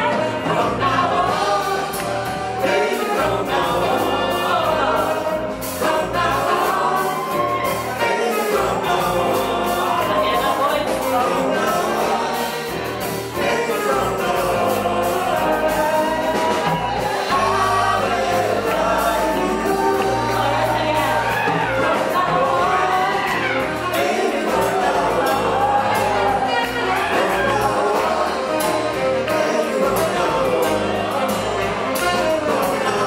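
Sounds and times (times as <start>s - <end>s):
woman singing: 0.0s - 12.6s, 13.4s - 31.0s
live band playing: 0.0s - 33.0s.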